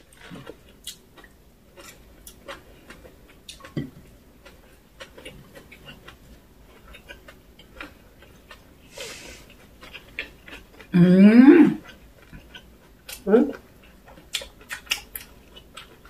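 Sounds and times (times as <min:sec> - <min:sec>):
person chewing with lip smacks: 0:00.1 - 0:10.9, 0:11.8 - 0:16.0.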